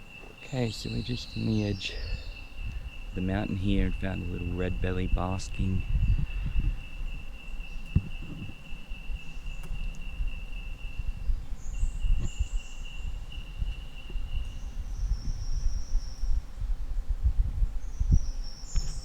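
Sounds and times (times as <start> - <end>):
insect high-pitched trill: 0.0 - 16.6
faint insect buzzes: 0.0 - 19.0
low rumble on microphone: 0.0 - 19.0.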